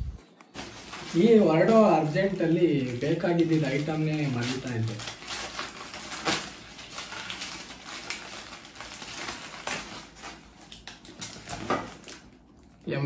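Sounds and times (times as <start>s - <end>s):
plastic wrapper crinkling: 0.5s - 12.9s.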